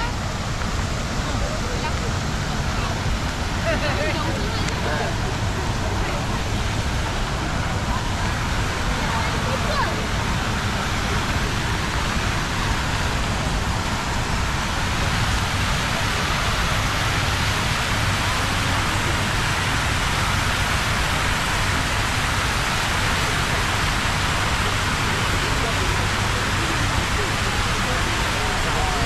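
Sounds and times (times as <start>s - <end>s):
fountain water jets spraying: 0.0s - 29.0s.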